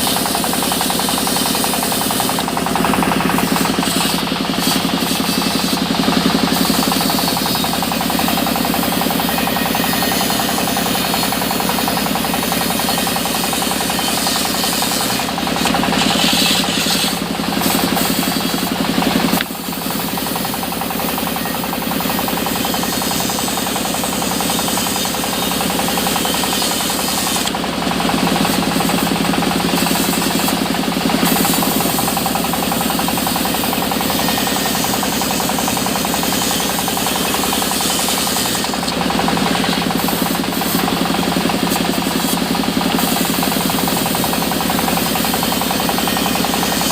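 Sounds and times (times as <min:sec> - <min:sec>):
sawmill machinery pulsing: 0:00.0 - 0:46.9.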